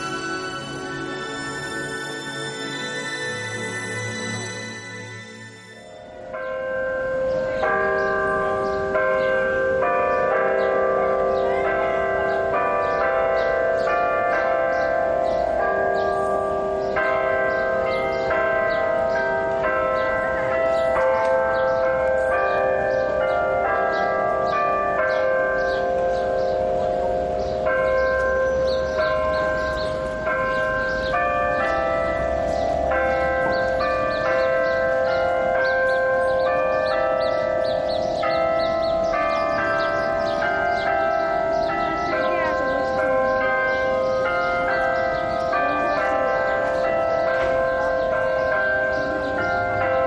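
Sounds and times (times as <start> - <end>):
clock bells chiming tune: 0.0 - 50.0.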